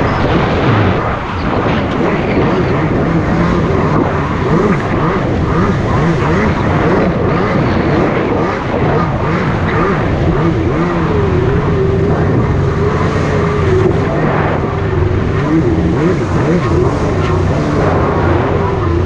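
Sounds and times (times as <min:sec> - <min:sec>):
jet ski engine running: 0:00.0 - 0:19.0
steady rushing noise: 0:00.0 - 0:19.0.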